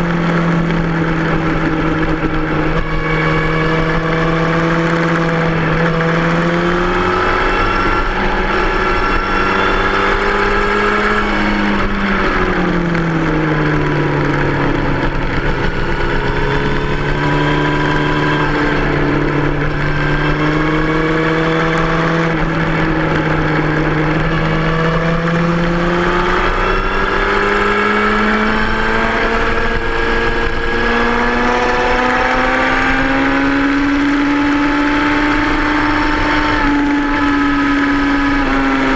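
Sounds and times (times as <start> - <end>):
motorcycle engine running hard: 0.0 - 38.9.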